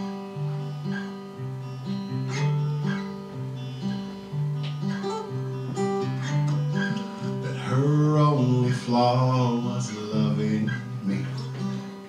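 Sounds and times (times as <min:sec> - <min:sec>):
acoustic guitar picking: 0:00.0 - 0:12.0.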